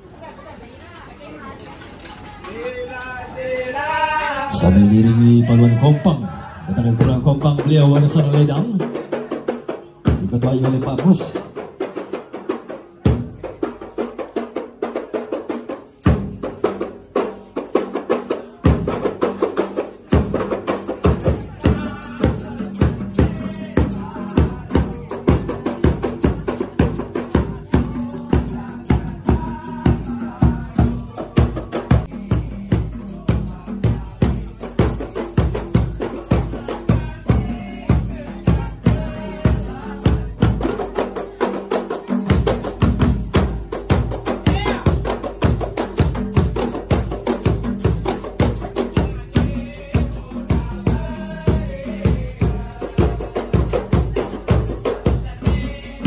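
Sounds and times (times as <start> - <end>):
frame drums beaten by hand: 6.8 - 56.0.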